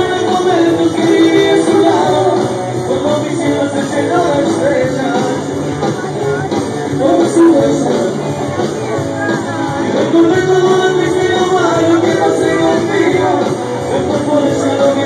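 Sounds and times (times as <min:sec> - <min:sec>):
loud dance music with singing: 0:00.0 - 0:15.0.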